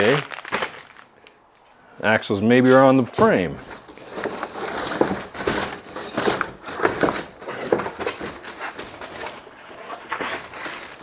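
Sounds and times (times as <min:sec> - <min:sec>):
packaging rustling and crinkling: 0:00.0 - 0:01.4, 0:02.7 - 0:11.0.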